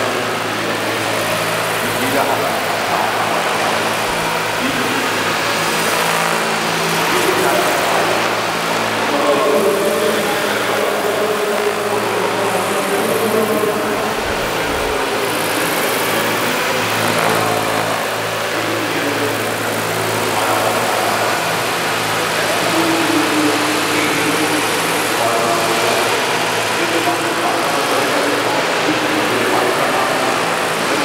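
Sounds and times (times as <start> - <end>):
model helicopter rotors humming: 0.0 - 31.0.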